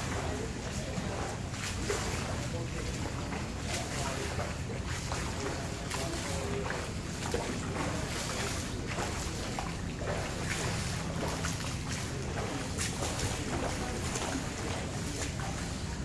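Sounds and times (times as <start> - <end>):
swimmer splashing: 0.0 - 16.0.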